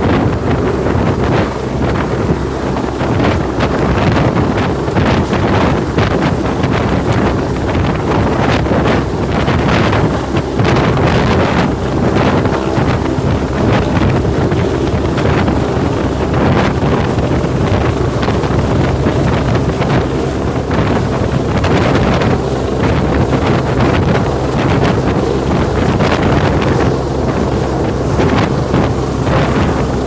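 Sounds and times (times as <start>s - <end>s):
helicopter rotor and engine: 0.0s - 30.0s
wind buffeting microphone: 0.0s - 30.0s.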